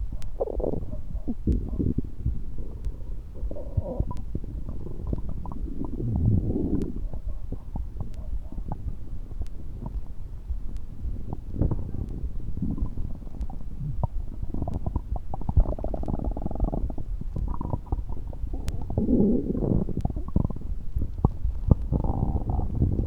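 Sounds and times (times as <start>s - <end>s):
stomach gurgling and rumbling: 0.0s - 23.0s.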